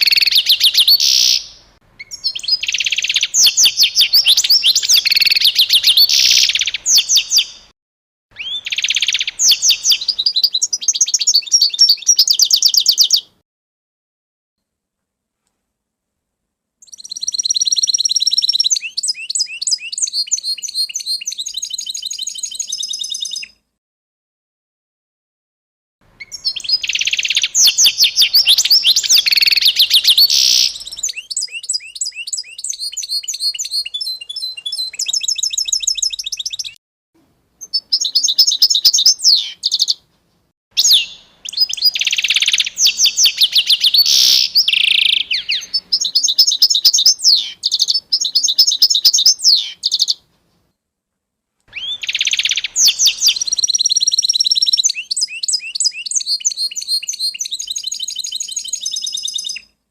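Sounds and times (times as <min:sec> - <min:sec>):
songbird trilling and whistling: 0:00.0 - 0:07.7, 0:08.4 - 0:13.4, 0:16.8 - 0:23.6, 0:26.2 - 0:36.8, 0:37.6 - 0:40.0, 0:40.8 - 0:50.2, 0:51.7 - 0:59.8.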